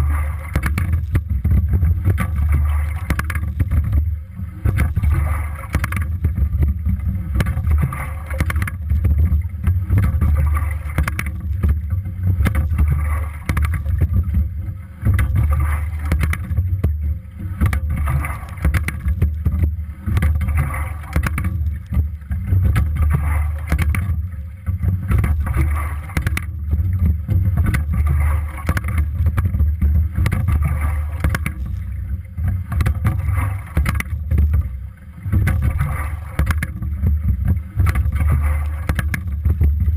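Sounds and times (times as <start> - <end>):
water rushing past a hull: 0.0 - 39.9
wind rumble on microphone: 0.0 - 39.9.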